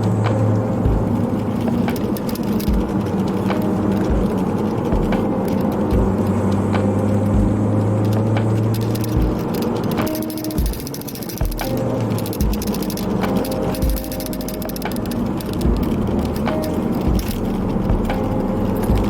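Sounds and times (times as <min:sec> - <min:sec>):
car engine and road noise: 0:00.0 - 0:19.0
lo-fi hip-hop music: 0:00.0 - 0:19.0.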